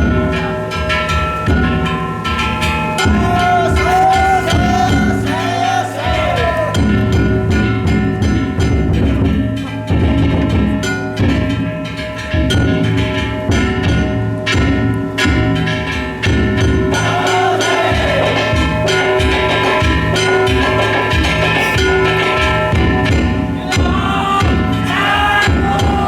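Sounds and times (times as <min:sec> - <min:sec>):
gongs ringing: 0:00.0 - 0:26.0
taiko drum beating: 0:00.0 - 0:26.0
voices calling out: 0:00.0 - 0:26.0.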